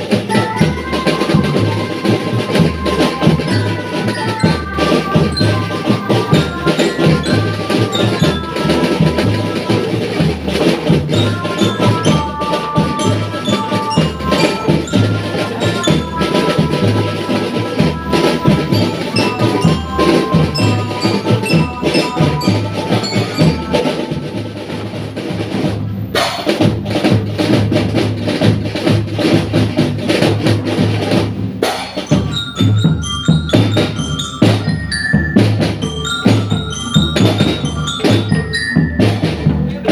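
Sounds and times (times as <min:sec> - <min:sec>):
mallet bells melody: 0:00.0 - 0:27.5, 0:31.1 - 0:39.9
snare and bass drums beating: 0:00.0 - 0:39.9.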